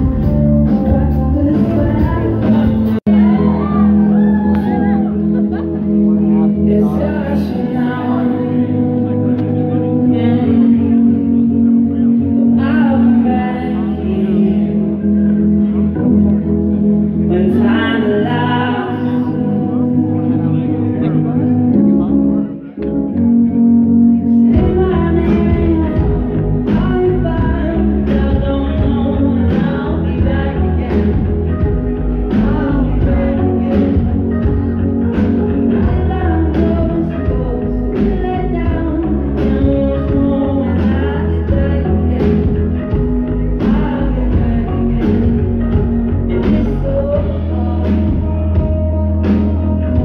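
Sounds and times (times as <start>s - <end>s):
live band playing: 0.0s - 50.0s
person singing: 0.0s - 50.0s.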